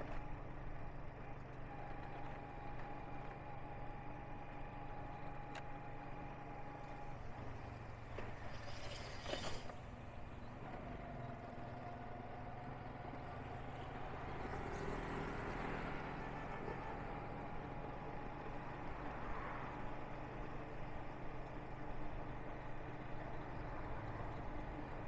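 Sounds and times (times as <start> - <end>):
motorbike engine hum: 0.0 - 25.0
wind and road noise: 0.0 - 25.0.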